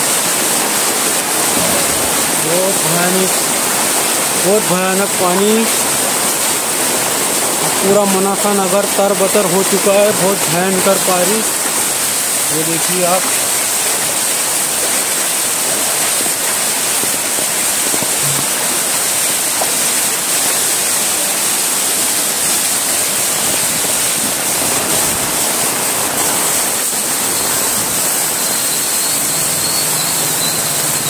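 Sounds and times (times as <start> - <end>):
floodwater rushing: 0.0 - 31.0
heavy rain: 0.0 - 31.0.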